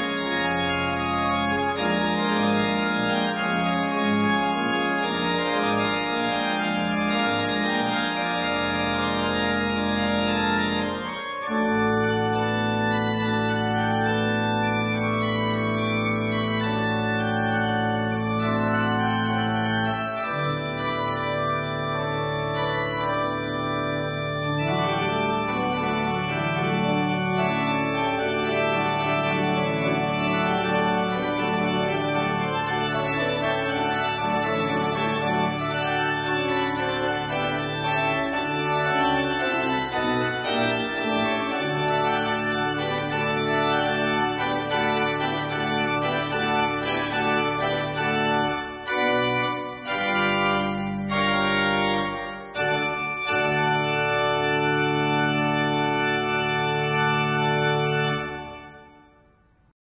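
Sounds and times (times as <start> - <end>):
pipe organ chords: 0.0 - 59.6.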